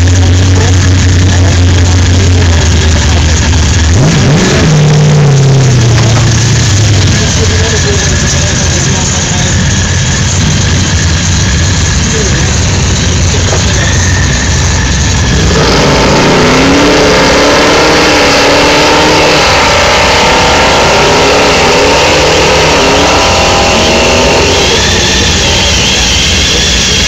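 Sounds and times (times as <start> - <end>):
drag racing engines revving: 0.0 - 27.0.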